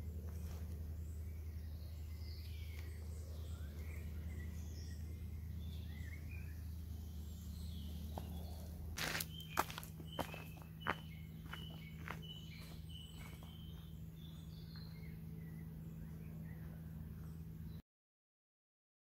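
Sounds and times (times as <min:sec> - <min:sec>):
songbird chirps: 0:00.0 - 0:17.8
steady low hum: 0:00.0 - 0:17.8.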